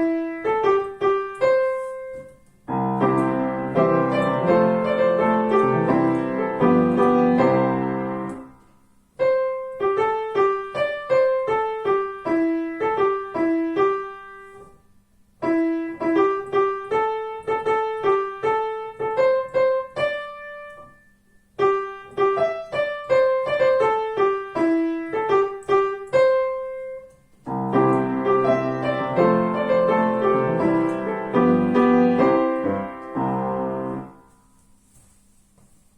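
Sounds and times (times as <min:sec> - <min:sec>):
piano music: 0:00.0 - 0:14.7, 0:15.4 - 0:34.8.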